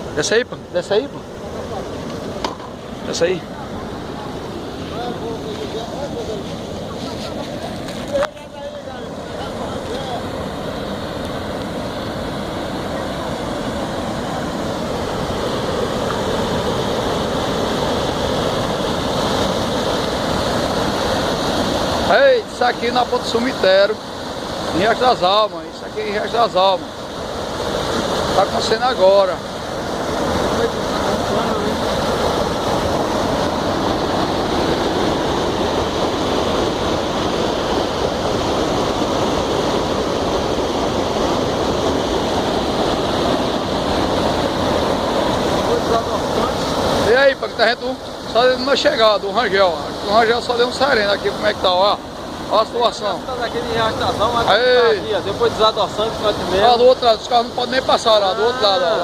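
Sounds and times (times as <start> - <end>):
floodwater roaring: 0.0 - 59.0.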